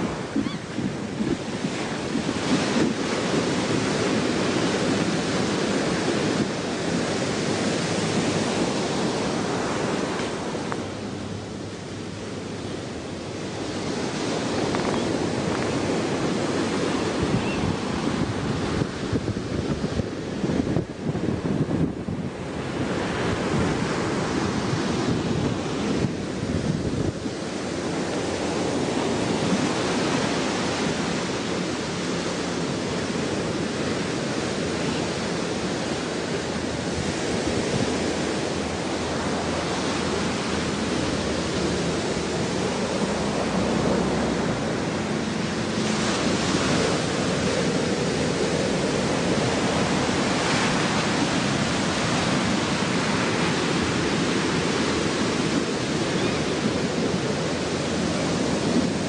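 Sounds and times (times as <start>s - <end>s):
ocean surf: 0.0s - 59.0s
wind buffeting microphone: 0.0s - 59.0s.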